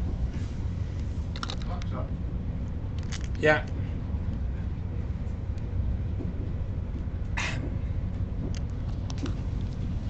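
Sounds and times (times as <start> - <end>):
train rumble from inside: 0.0 - 10.0.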